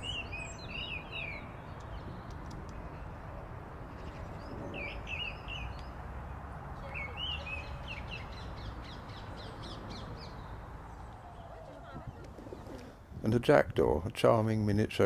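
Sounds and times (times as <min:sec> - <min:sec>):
songbirds chirping: 0:00.0 - 0:13.6.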